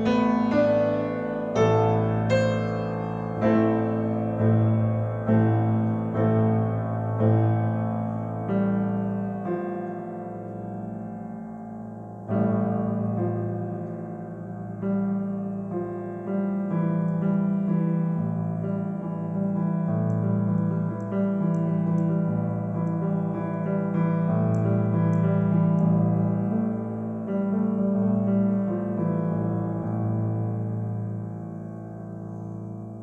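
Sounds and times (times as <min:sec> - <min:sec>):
slow solo piano piece: 0:00.0 - 0:33.0.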